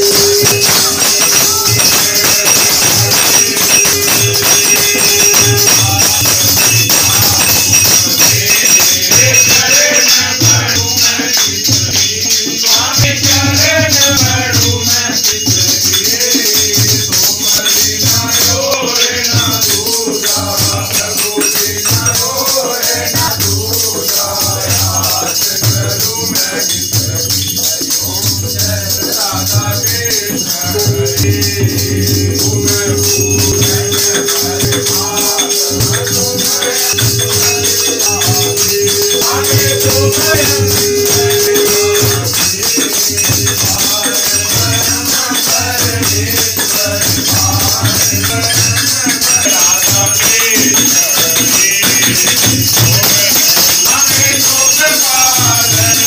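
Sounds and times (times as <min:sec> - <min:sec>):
steady held tone: 0:00.0 - 0:14.8, 0:16.8 - 0:56.0
jingling hand percussion: 0:00.0 - 0:56.0
steady drumbeat: 0:00.0 - 0:56.0
voices singing: 0:00.0 - 0:56.0.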